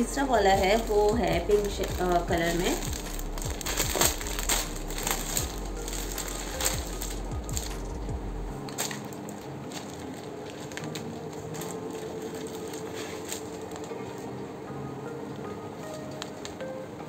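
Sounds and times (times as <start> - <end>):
packaging and fabric rustling: 0.0 - 16.8.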